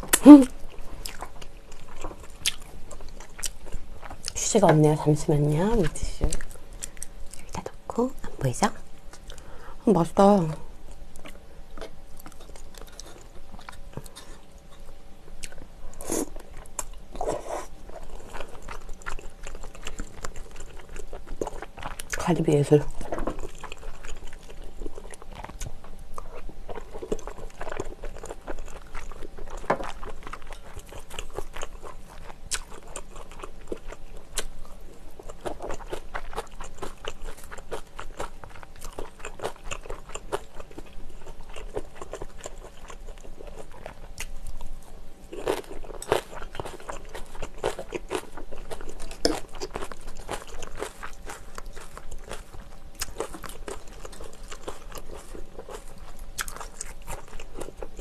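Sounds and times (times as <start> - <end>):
person chewing close up: 0.0 - 4.7, 6.3 - 7.7, 9.0 - 9.5, 10.8 - 58.0.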